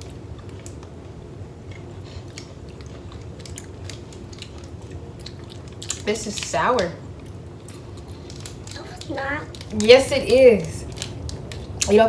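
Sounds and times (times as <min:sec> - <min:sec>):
mouth clicks chewing candy: 0:00.0 - 0:12.0
steady low hum: 0:00.0 - 0:12.0.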